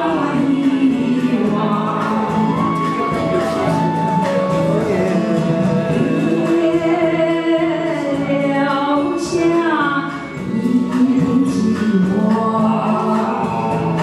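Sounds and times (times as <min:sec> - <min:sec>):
woman singing into microphone: 0:00.0 - 0:03.9, 0:05.2 - 0:14.0
karaoke backing track: 0:00.0 - 0:14.0.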